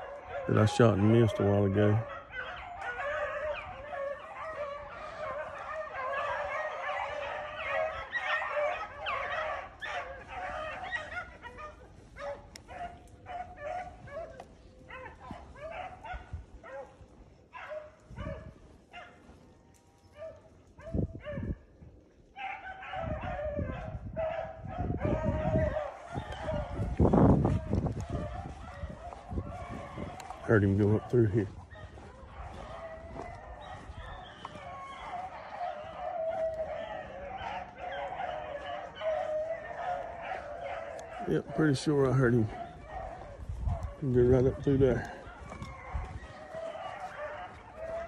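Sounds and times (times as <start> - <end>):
dogs baying: 0.0 - 48.0.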